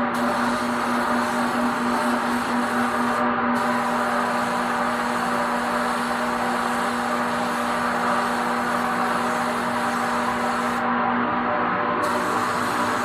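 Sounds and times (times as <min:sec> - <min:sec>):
steady low hum: 0:00.0 - 0:13.0
paint spray gun hissing: 0:00.1 - 0:10.8, 0:12.0 - 0:13.0.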